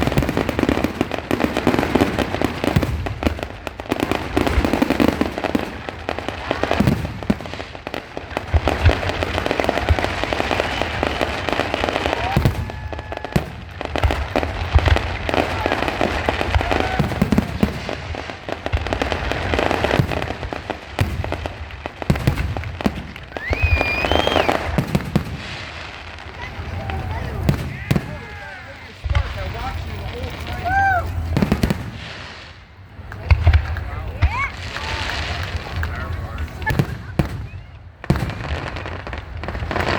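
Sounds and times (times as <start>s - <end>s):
fireworks booming and banging: 0.0s - 39.9s
fireworks crackling: 0.0s - 39.9s.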